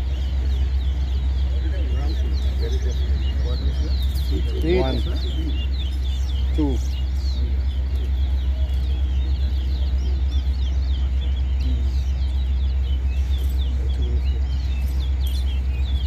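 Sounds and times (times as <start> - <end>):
songbirds chirping: 0.0 - 16.0
steady low rumble: 0.0 - 16.0.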